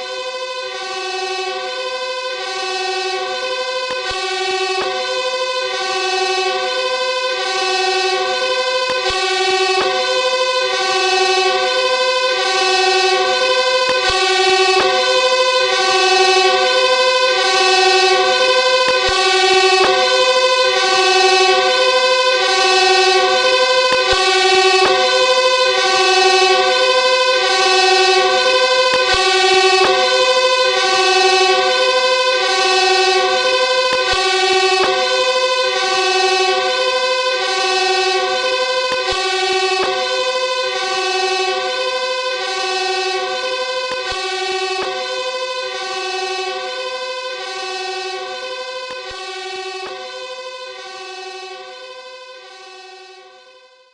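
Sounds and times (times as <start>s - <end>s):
fire truck two-tone siren: 0.0s - 53.9s.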